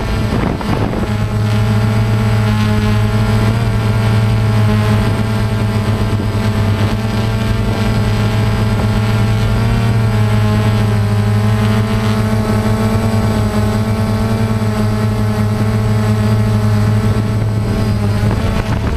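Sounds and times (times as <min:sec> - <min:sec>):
drone propellers buzzing: 0:00.0 - 0:18.9.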